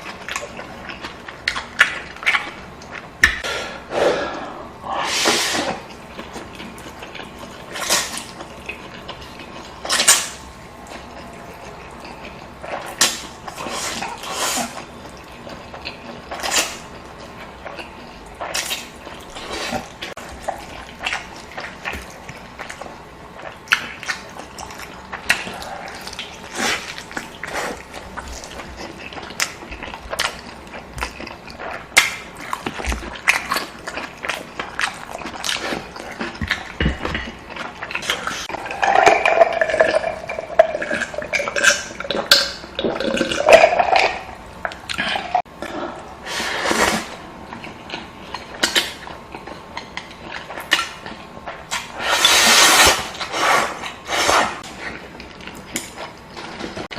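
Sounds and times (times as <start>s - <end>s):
wet chewing and slurping noodles: 4.1s - 56.9s.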